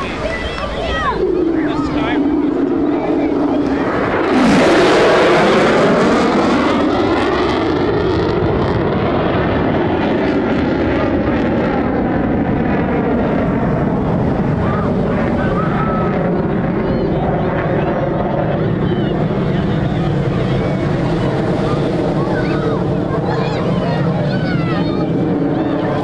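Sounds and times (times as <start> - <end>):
fighter jet roaring overhead: 0.0 - 26.0.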